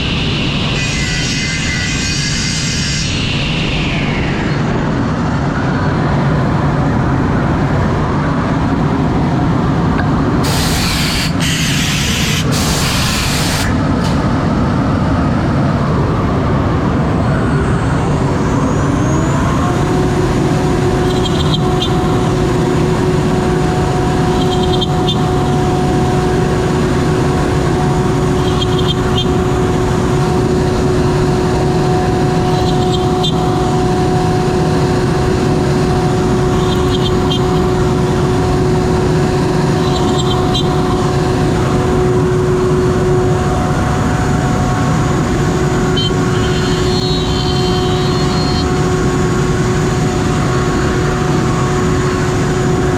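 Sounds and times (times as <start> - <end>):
router spindle whine: 0.0 - 9.8, 10.4 - 52.9
machine noise rushing: 0.0 - 52.9.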